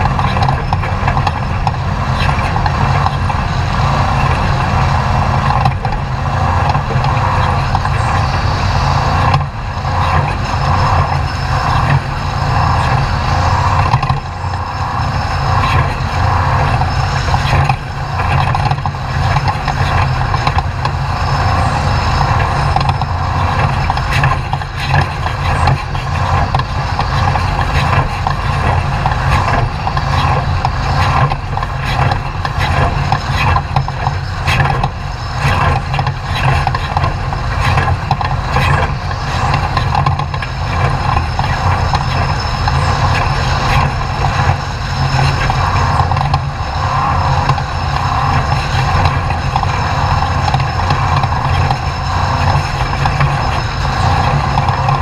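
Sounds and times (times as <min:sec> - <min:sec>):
knocks and rattles: 0:00.0 - 0:55.0
race truck engine: 0:00.0 - 0:55.0.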